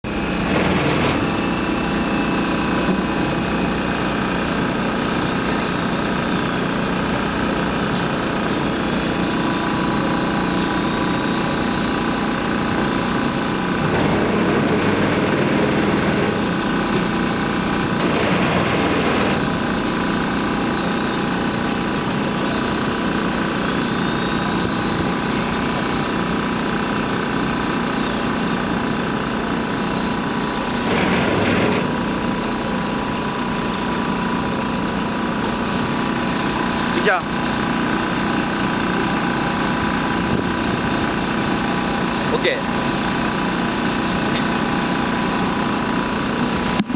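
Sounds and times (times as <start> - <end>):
boat engine drone: 0.0 - 46.9.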